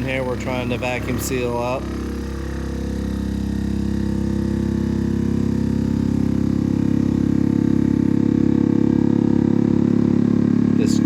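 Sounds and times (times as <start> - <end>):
vacuum pump humming: 0.0 - 11.0.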